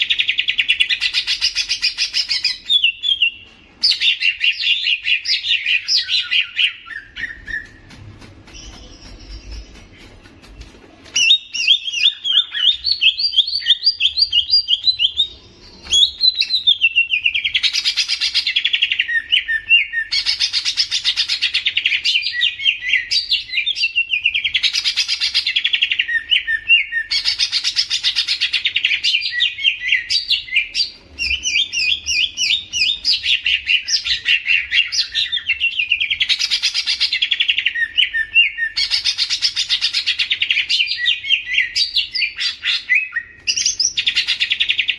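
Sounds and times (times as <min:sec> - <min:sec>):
bird singing chirping trills: 0:00.0 - 0:44.9.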